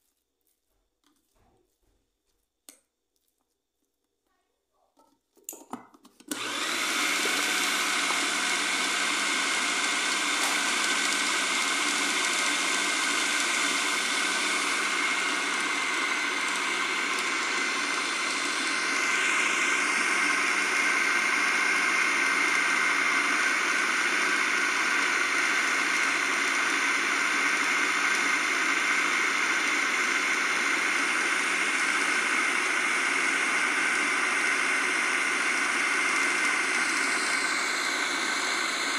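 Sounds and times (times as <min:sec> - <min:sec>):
food processor grinding: 0:06.2 - 0:38.9.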